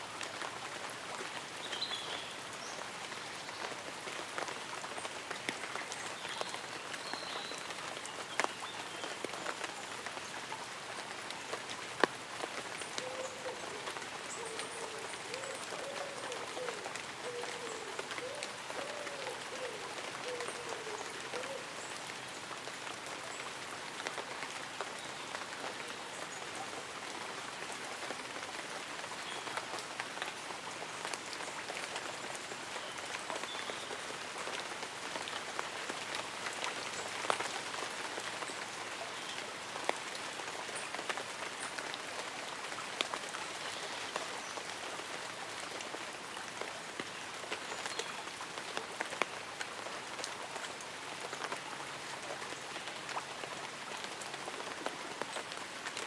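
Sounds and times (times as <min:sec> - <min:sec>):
light rain on leaves and umbrella: 0:00.0 - 0:56.0.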